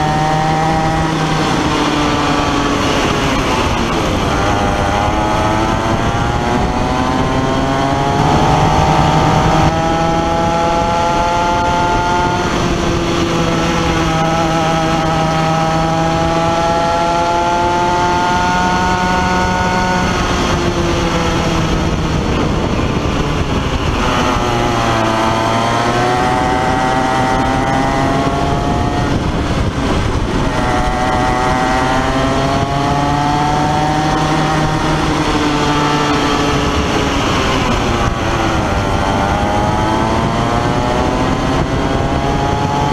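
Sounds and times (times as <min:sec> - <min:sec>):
two-stroke kart engine racing: 0:00.0 - 0:42.9.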